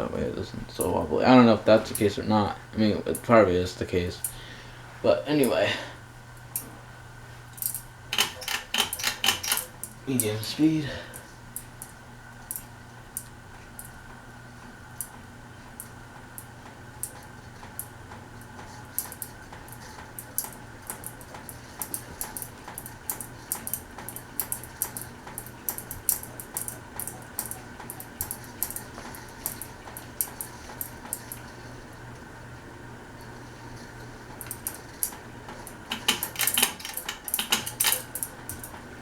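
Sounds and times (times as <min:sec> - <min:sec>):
ceiling fan running: 0:00.0 - 0:39.0.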